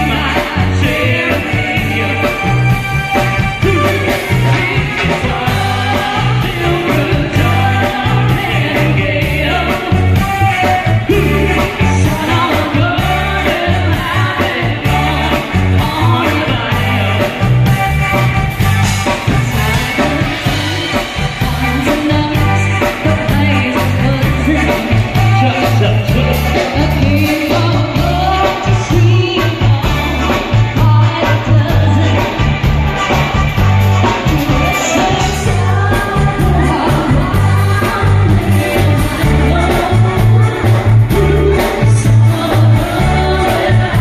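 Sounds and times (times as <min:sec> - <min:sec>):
person singing: 0:00.0 - 0:17.9, 0:19.0 - 0:33.1, 0:34.0 - 0:44.0
drum kit: 0:00.0 - 0:44.0
electric guitar: 0:00.0 - 0:44.0
keyboard: 0:00.0 - 0:44.0.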